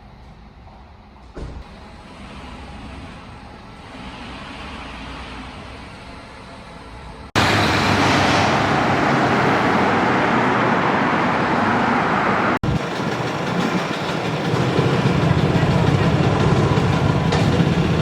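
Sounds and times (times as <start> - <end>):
street traffic: 1.3 - 18.0.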